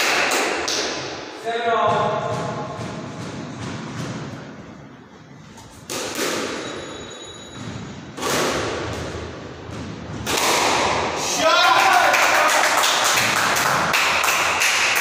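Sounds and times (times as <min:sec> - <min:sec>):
loud thuds echoing in hall: 0:00.0 - 0:06.8, 0:07.6 - 0:15.0.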